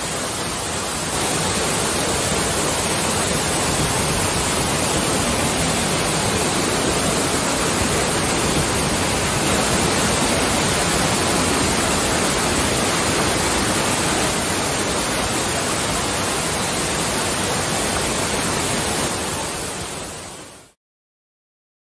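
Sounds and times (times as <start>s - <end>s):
waterfall pouring over rocks: 0.0s - 20.8s.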